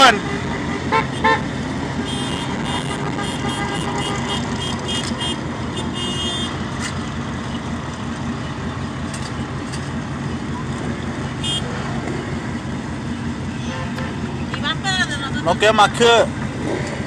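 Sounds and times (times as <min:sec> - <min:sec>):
truck engines passing: 0:00.0 - 0:17.0.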